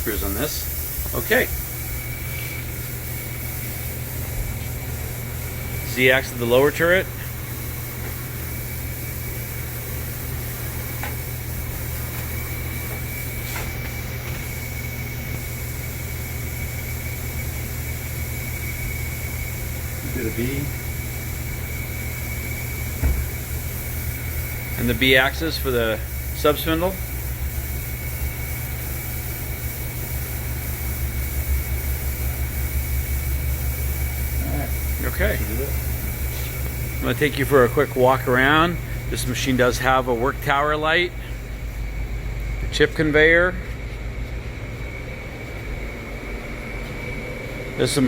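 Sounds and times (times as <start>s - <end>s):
faint high whine: 0.0s - 48.0s
lathe humming: 0.0s - 48.0s.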